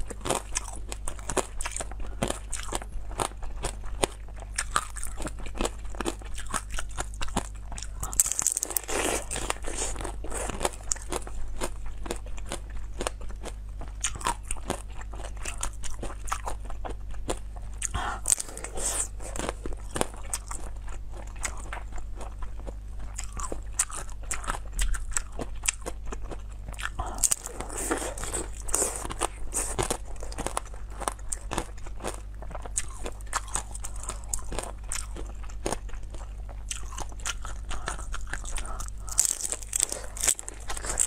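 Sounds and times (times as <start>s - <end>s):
wet crunchy chewing of fruit: 0.0s - 41.0s.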